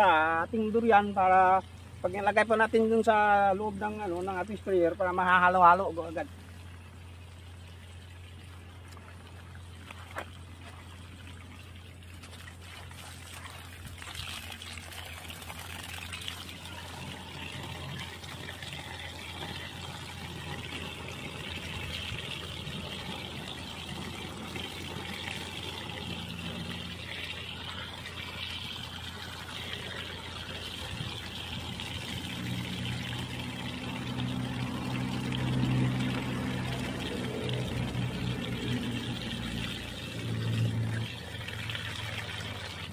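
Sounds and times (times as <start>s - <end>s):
water splashing into a plastic tank: 0.0s - 42.9s.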